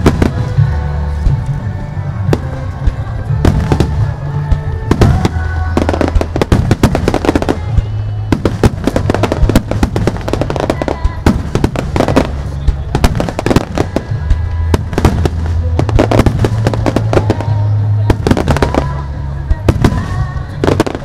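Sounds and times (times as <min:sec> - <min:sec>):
fireworks bursting and crackling: 0:00.0 - 0:21.0
music with bass line: 0:00.0 - 0:21.0.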